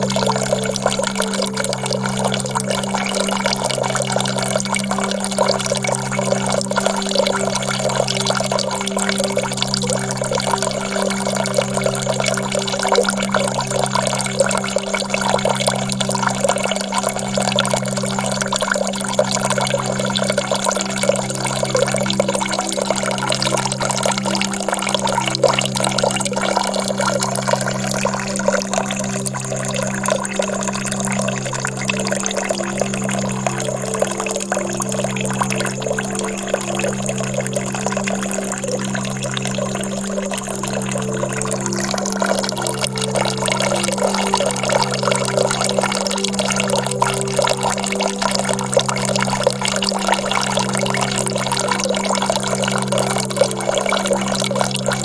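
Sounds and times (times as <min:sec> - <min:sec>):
low musical drone: 0:00.0 - 0:55.0
running water: 0:00.0 - 0:55.0.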